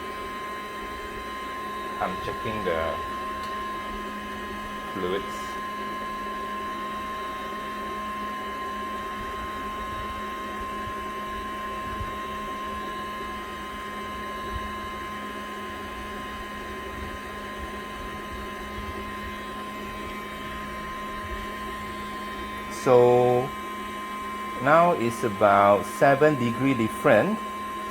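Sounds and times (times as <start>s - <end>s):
air conditioner motor hum: 0.0s - 27.9s
pump and fan whine: 0.0s - 27.9s.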